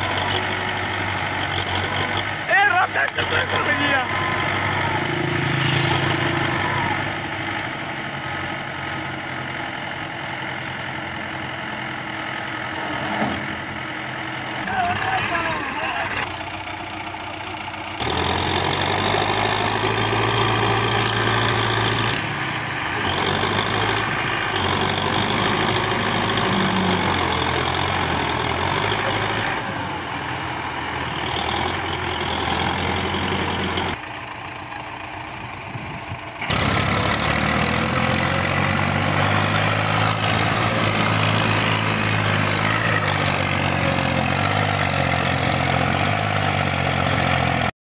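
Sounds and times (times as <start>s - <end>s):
diesel tractor engines labouring: 0.0s - 47.8s.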